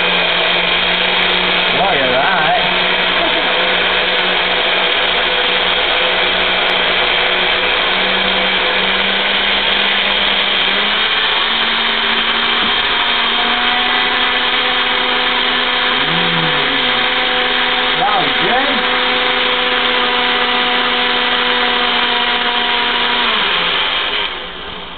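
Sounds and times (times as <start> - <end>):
blender motor running: 0.0 - 24.9.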